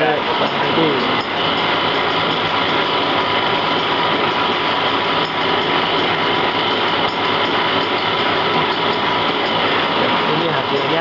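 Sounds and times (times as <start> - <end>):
screen printing machine running: 0.0 - 11.0.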